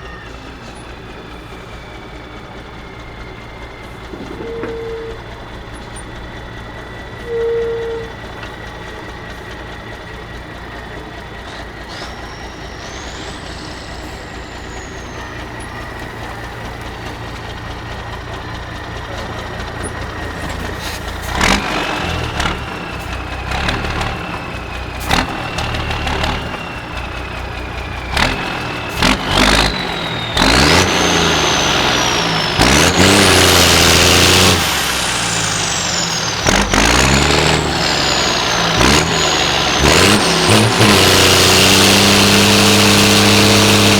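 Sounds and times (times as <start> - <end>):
diesel truck engine revving: 0.0 - 43.9.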